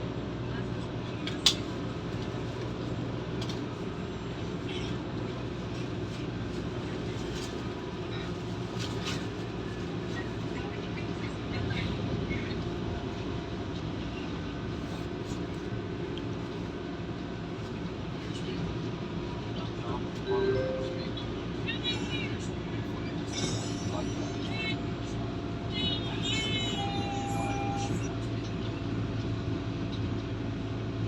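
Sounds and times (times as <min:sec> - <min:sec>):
train interior rumble: 0:00.0 - 0:31.0.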